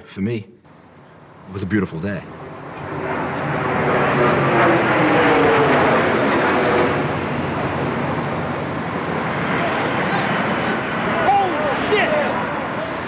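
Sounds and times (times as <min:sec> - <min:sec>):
jet airliner roaring overhead: 0:00.7 - 0:13.0.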